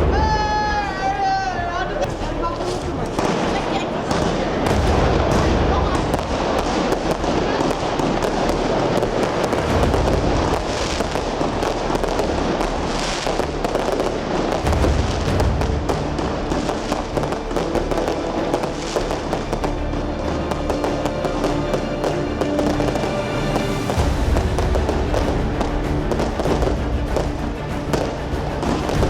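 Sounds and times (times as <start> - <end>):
firework barrage with crackling: 0.0 - 29.0.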